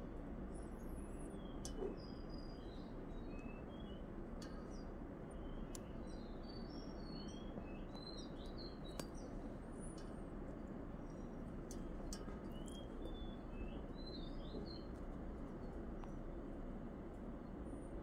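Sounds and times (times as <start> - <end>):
low outdoor background noise: 0.0 - 18.0
songbirds chirping: 0.1 - 18.0.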